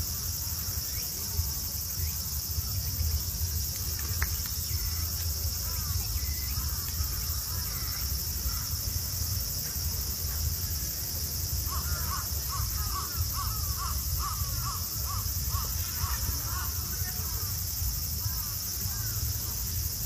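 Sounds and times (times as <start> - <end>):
high insect chorus: 0.0 - 20.0.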